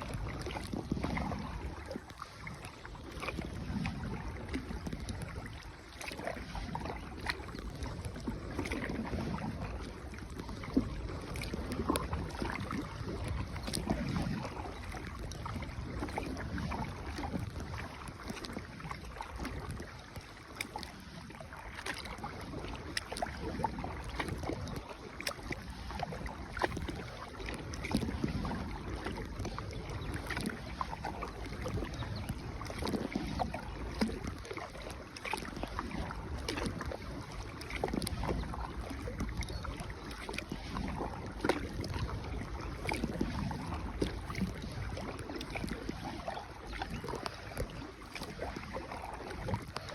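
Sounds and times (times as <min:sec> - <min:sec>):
water splashing from paddling: 0:00.0 - 0:49.9
wind on microphone: 0:00.0 - 0:49.9.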